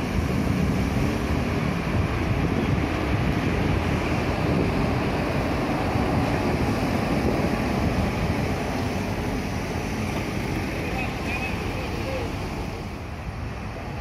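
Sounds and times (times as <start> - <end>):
wind on microphone: 0.0 - 13.0
bus diesel engine: 0.0 - 14.0.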